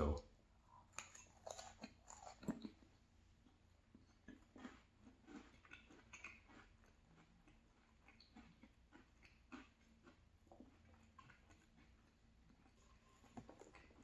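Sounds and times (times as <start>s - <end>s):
close-up chewing sounds: 0.1s - 14.0s.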